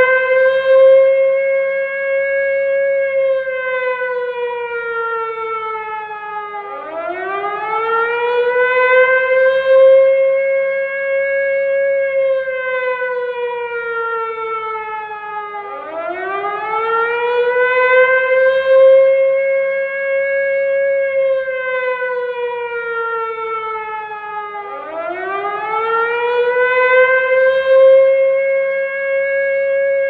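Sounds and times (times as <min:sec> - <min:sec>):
siren wailing: 0:00.0 - 0:30.0.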